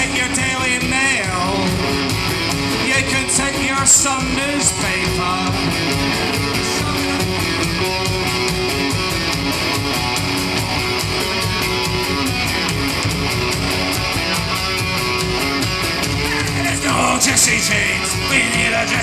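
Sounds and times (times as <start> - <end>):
rock band playing: 0.0 - 19.0
strummed electric guitar: 0.0 - 19.0.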